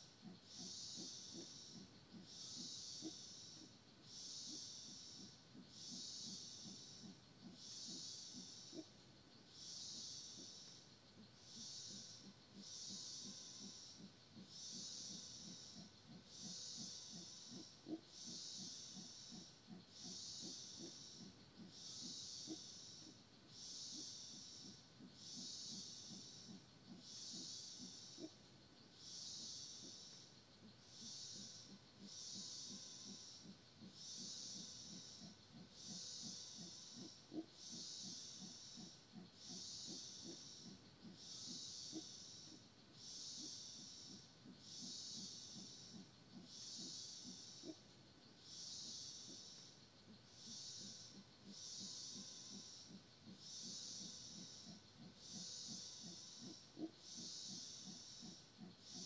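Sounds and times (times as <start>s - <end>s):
faint low pulsing: 0.0s - 59.0s
insect buzzing call: 0.0s - 59.0s.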